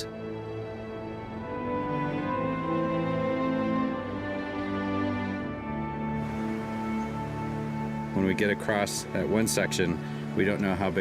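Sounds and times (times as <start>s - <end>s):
soft sad sustained music: 0.0s - 11.0s.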